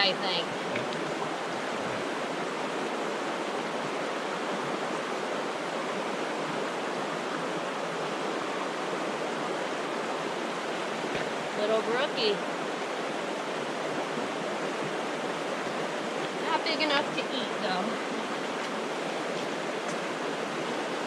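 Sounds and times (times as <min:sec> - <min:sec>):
fast-flowing brook: 0:00.0 - 0:21.0.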